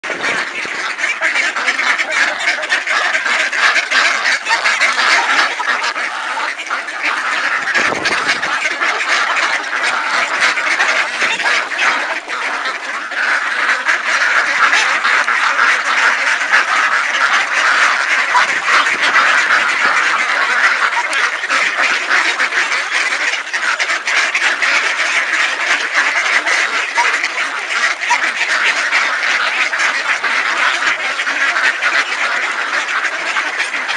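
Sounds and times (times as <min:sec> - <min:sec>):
flock of ducks quacking: 0:00.0 - 0:33.9.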